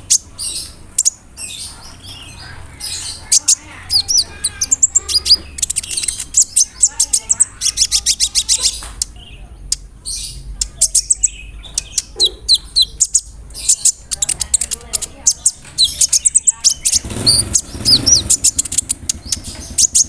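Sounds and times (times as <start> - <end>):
small bird chirping song: 0.0 - 20.0.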